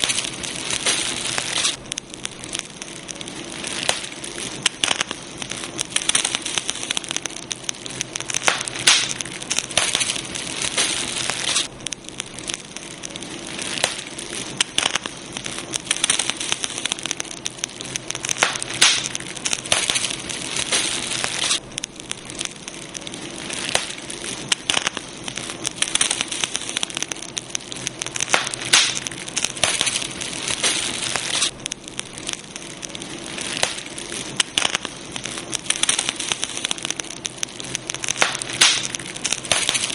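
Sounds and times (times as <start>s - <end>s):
campfire wood crackling and popping: 0.0s - 39.9s
fire hiss: 0.0s - 39.9s.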